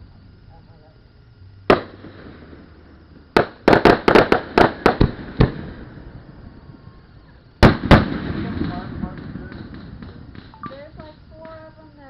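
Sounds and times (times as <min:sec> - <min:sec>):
fireworks bangs: 0:01.7 - 0:12.0.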